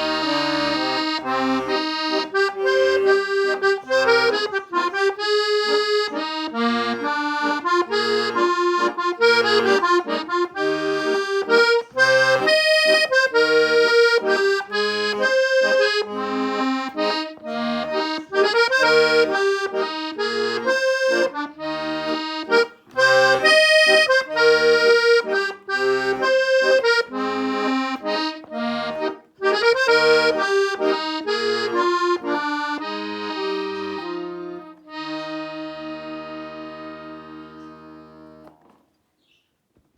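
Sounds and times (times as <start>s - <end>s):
accordion playing a waltz: 0.0s - 38.6s.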